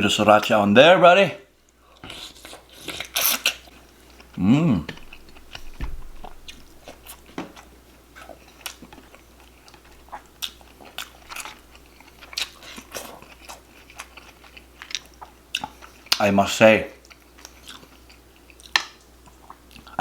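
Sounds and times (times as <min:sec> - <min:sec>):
person chewing food: 0:01.6 - 0:16.2, 0:17.0 - 0:20.0.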